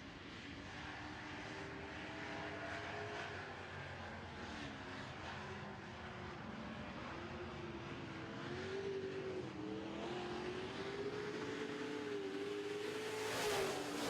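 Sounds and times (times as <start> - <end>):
racing truck engines droning: 0.1 - 14.0.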